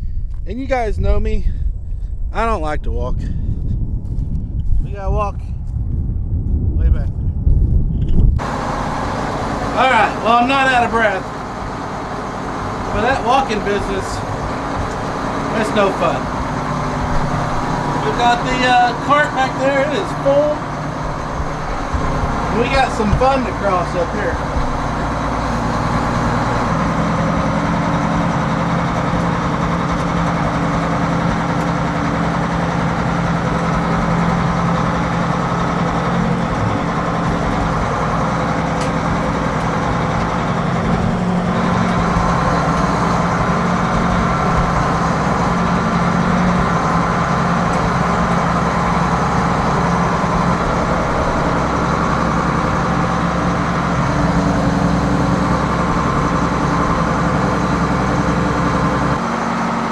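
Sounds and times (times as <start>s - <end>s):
tractor engine running: 8.4s - 59.9s.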